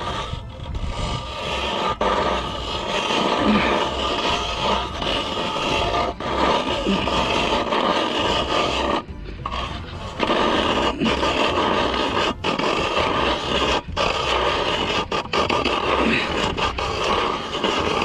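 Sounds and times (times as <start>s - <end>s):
ice auger blades scraping: 0.0s - 18.0s.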